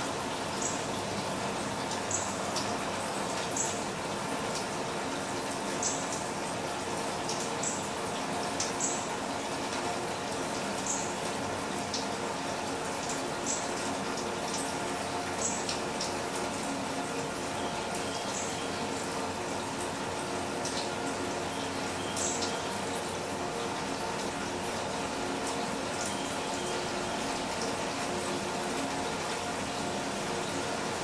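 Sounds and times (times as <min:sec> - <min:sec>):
rainwater trickling down rain chain: 0:00.0 - 0:31.0
sharp water drips: 0:00.0 - 0:31.0.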